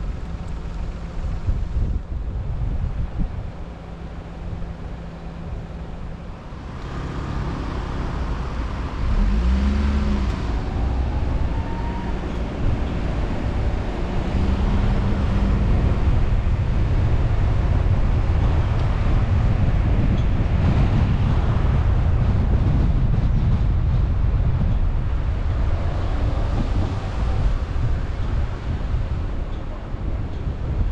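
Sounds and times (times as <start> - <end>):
car engine: 0.0 - 30.9
road noise: 0.0 - 30.9
wind on microphone: 0.0 - 30.9.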